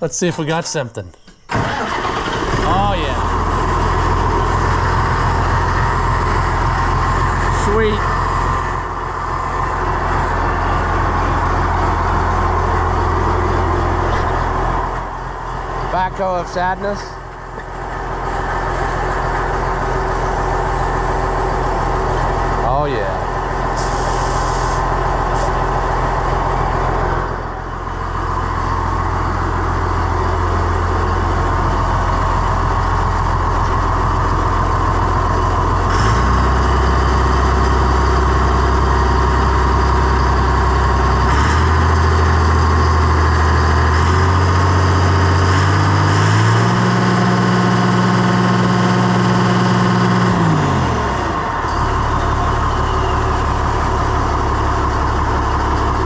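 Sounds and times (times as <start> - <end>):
tractor engine revving and idling: 1.5 - 56.0.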